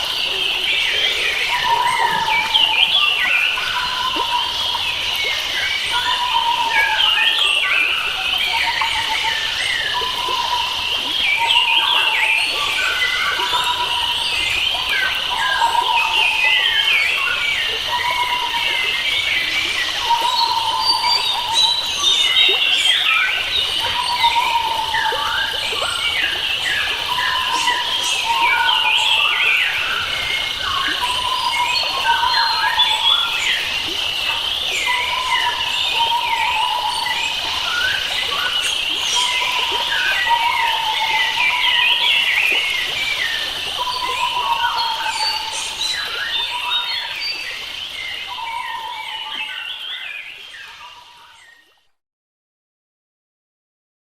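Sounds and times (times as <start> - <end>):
forest birds singing and chirping: 0.0 - 51.7.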